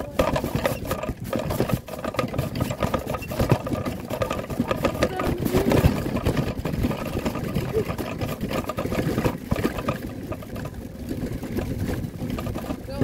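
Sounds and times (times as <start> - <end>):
wagon wheels clattering over ground: 0.0 - 13.0.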